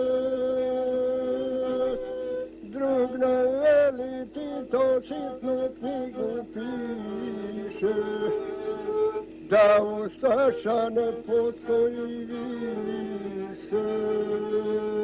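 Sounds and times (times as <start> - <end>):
bowed one-string fiddle: 0.0 - 15.0
man singing: 0.0 - 15.0.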